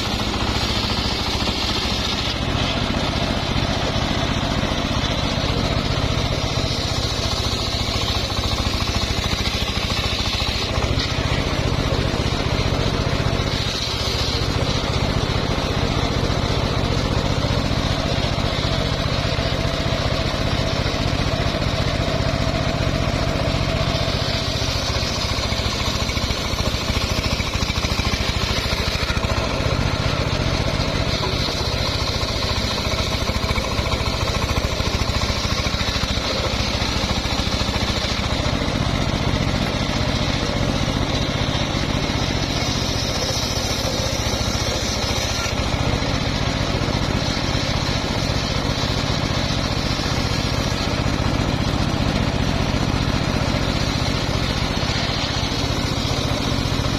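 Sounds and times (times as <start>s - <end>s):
saw blade whine cutting wood: 0.0s - 56.9s
sawmill engine running: 0.0s - 56.9s.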